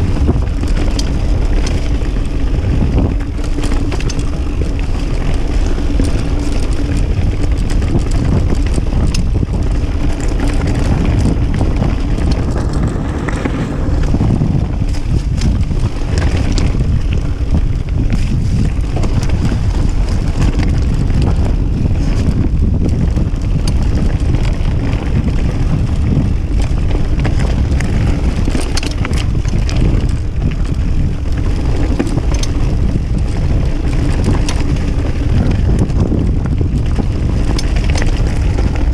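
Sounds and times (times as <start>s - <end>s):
bike rattles and clicks: 0.0s - 38.9s
wind buffeting microphone: 0.0s - 38.9s.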